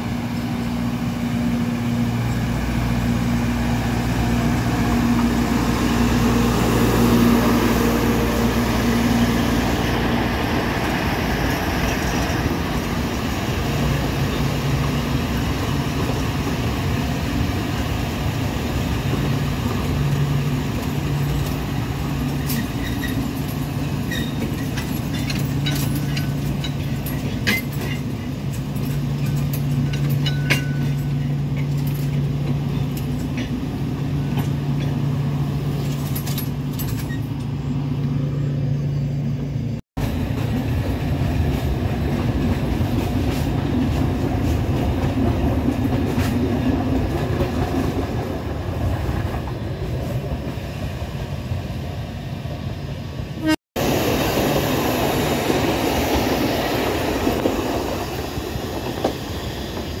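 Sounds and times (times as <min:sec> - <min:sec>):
train engine hum: 0:00.0 - 1:00.0
train wheels rumbling on rails: 0:00.0 - 1:00.0.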